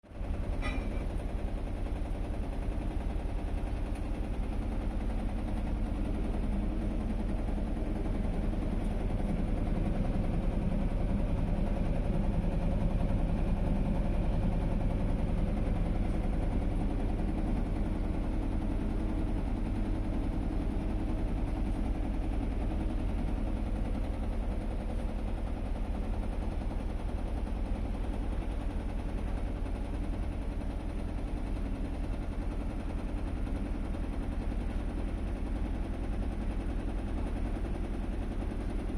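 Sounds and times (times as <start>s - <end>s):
washing machine spinning: 0.1s - 38.9s.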